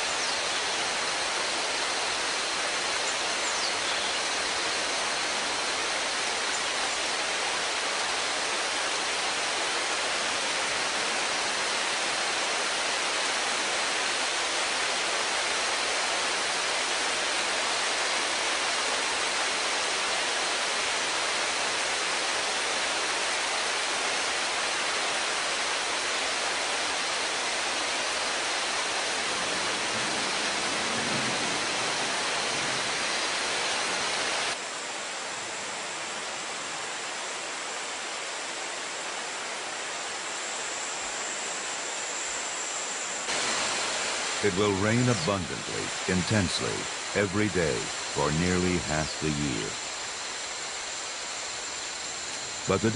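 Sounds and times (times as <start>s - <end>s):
heavy rain pouring: 0.0s - 40.3s, 43.2s - 52.9s.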